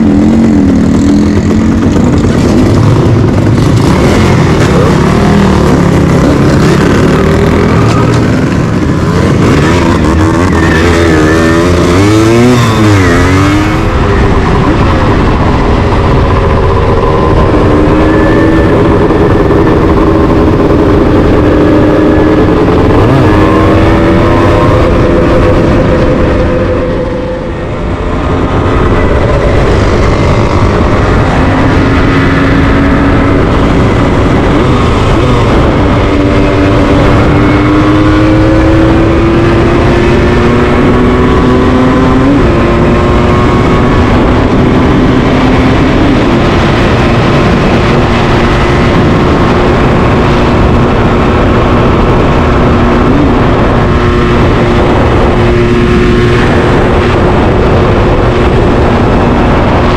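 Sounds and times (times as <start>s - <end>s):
motorcycle engine running: 0.0s - 59.9s
rushing noise: 0.0s - 59.9s.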